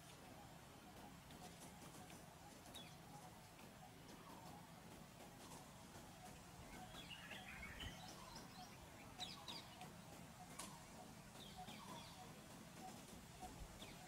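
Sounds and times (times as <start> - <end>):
faint bird chirping: 0.0 - 14.0
low steady background noise: 0.0 - 14.0.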